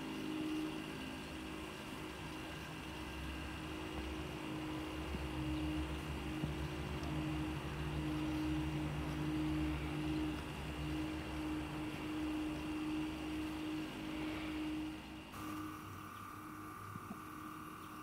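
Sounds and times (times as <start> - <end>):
small electric motor humming: 0.0 - 18.0.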